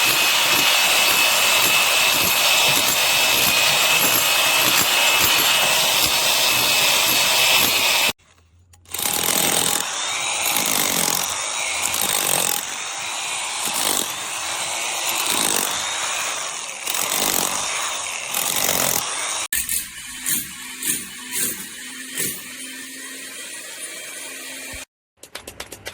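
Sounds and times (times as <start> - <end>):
electric demolition hammer: 0.0 - 8.2, 8.9 - 24.9.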